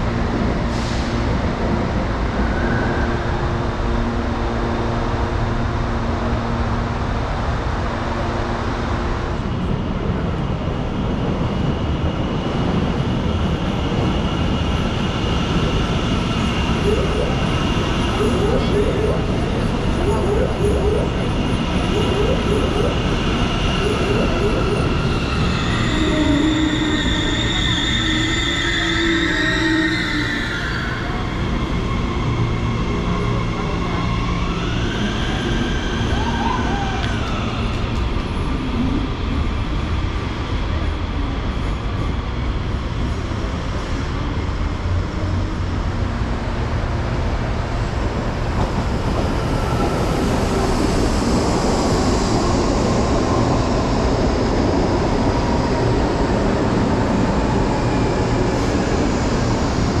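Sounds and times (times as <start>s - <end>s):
train low rumble: 0.0s - 60.0s
train rushing past: 0.0s - 60.0s.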